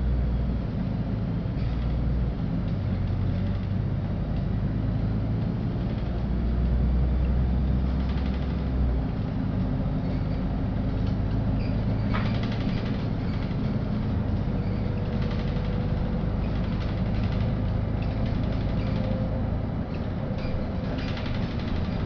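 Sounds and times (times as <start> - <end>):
bus engine drone: 0.0 - 22.0
road noise: 0.0 - 22.0.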